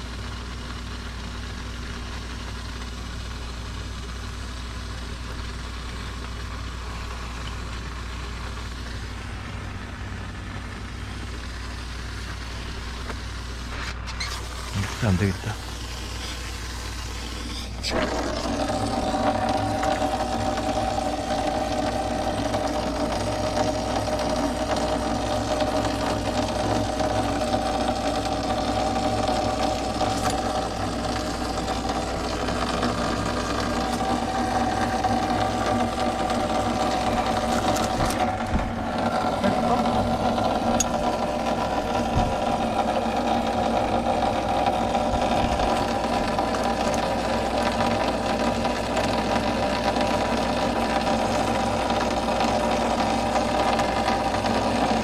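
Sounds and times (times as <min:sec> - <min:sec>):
pipe-thawing machine humming: 0:00.0 - 0:55.0.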